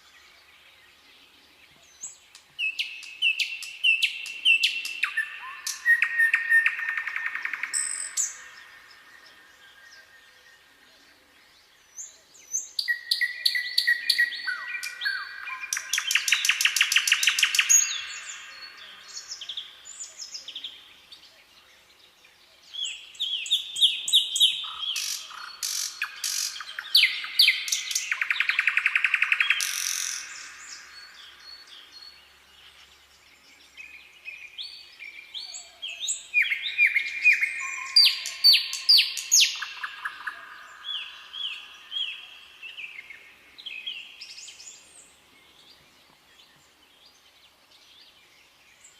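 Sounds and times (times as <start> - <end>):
songbird singing trills: 0.0 - 48.9.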